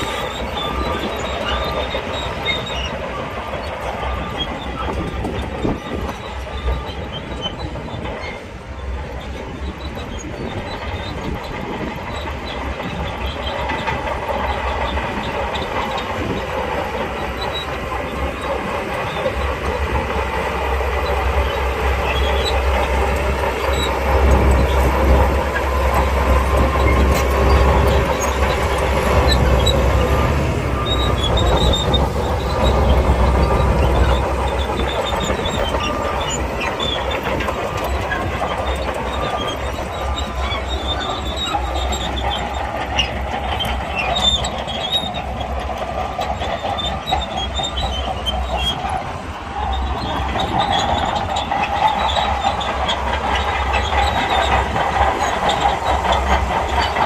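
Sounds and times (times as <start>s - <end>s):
bulldozer diesel engine: 0.0s - 57.0s
steel tracks running: 0.0s - 57.0s.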